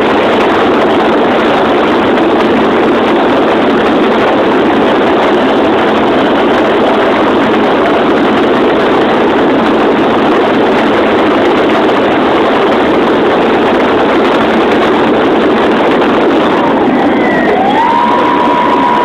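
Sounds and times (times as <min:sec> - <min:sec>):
propeller and wind rush: 0:00.0 - 0:19.0.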